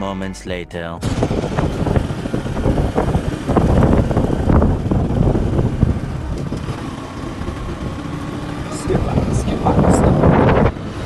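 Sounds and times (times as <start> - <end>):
motorcycle engine running: 1.0 - 11.0
wind buffeting microphone: 1.0 - 11.0.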